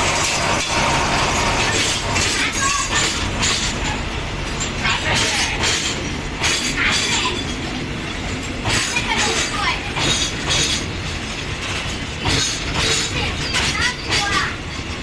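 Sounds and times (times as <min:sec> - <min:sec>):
train rattling: 0:00.0 - 0:15.0
train rumbling: 0:00.0 - 0:15.0
wheel squeals: 0:00.0 - 0:15.0.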